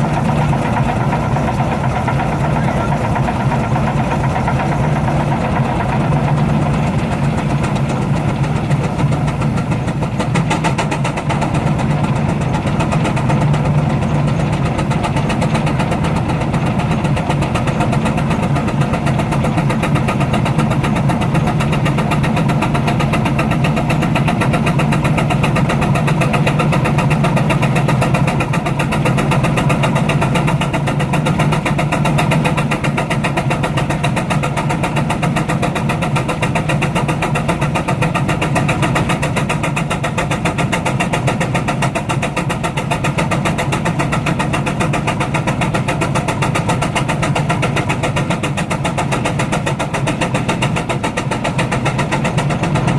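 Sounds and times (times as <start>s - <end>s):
steam traction engine running: 0.0s - 52.9s.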